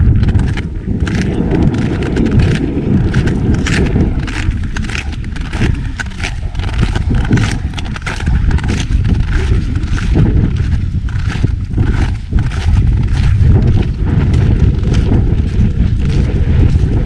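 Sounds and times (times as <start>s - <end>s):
footsteps crunching on snow: 0.0s - 17.0s
wind rumble on microphone: 0.0s - 17.0s.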